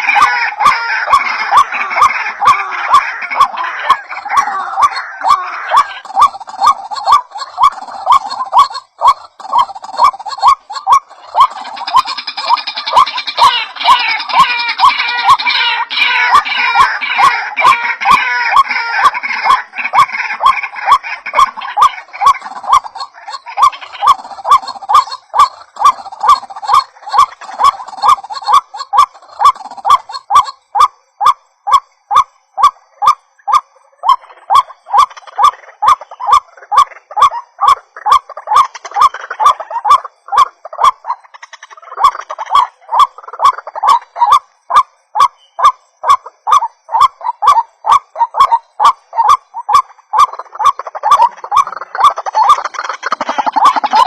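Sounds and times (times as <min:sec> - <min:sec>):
waterhens calling harsh notes: 0:00.0 - 0:54.0.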